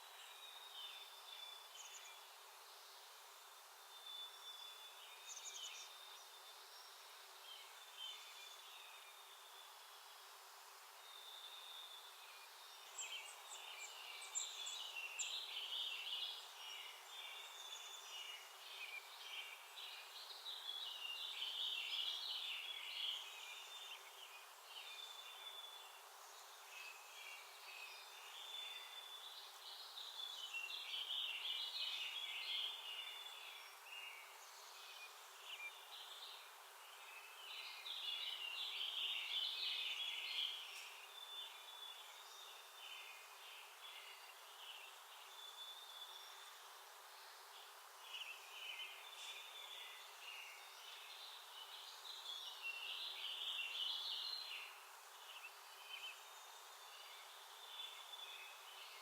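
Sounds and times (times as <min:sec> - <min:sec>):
faint outdoor hiss: 0:00.0 - 0:59.0.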